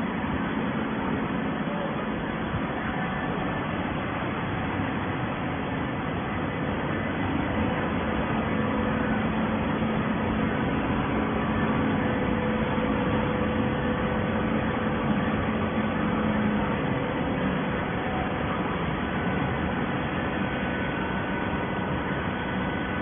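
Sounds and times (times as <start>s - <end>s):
baling machinery humming: 0.0s - 23.0s.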